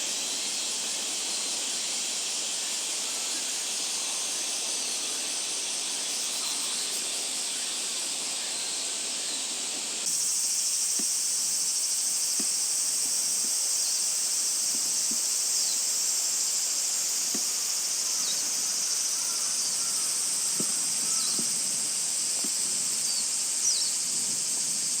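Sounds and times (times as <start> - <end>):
cicadas droning: 0.0 - 25.0.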